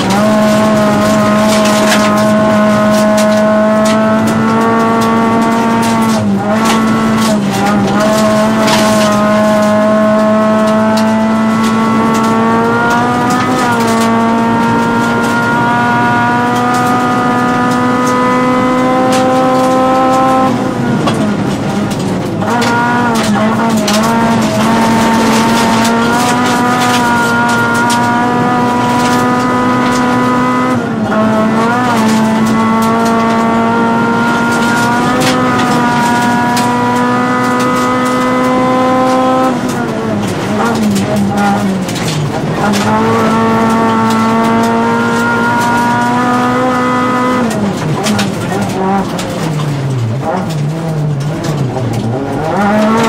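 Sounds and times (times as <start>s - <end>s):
car engine at high revs: 0.0s - 53.0s
gravel clattering on car underside: 0.0s - 53.0s.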